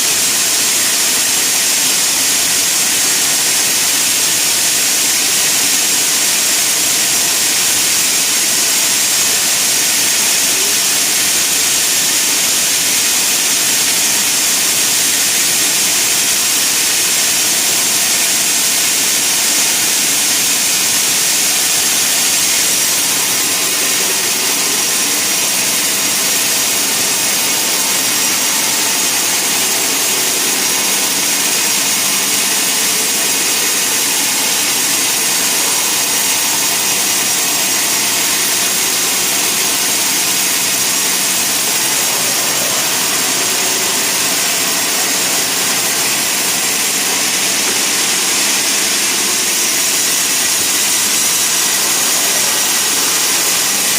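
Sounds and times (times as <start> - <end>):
sawmill machinery rushing: 0.0 - 53.9.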